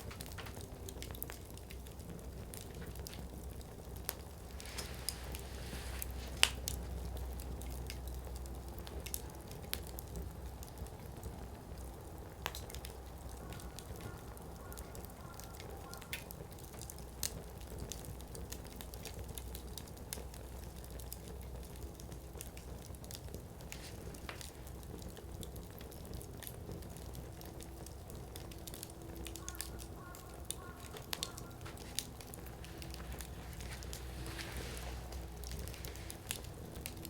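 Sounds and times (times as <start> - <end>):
campfire burning: 0.0 - 37.0.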